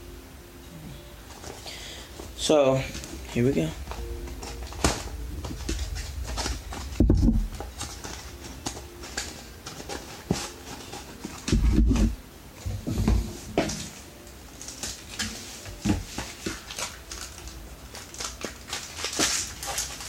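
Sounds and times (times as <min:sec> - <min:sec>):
packaging crinkling and clicking: 0:01.3 - 0:12.0, 0:13.6 - 0:20.0.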